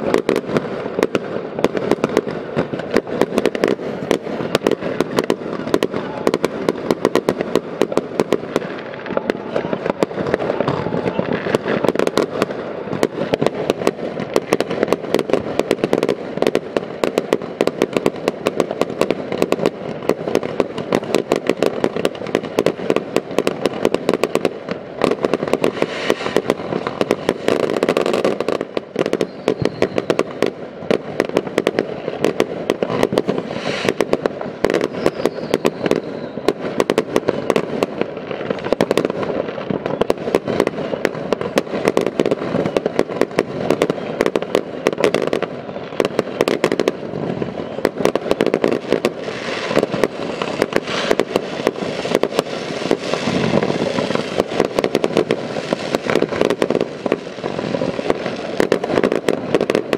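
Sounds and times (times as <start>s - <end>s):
aerial firework bursts: 0.0s - 59.9s
fireworks bangs and crackling: 0.0s - 59.9s.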